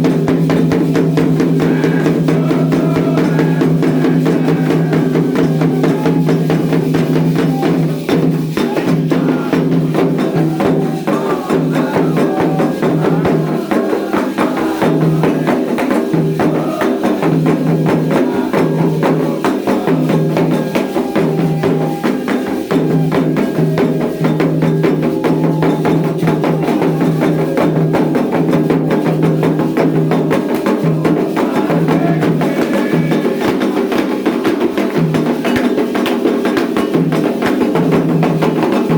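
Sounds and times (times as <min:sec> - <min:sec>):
drums: 0:00.0 - 0:38.9.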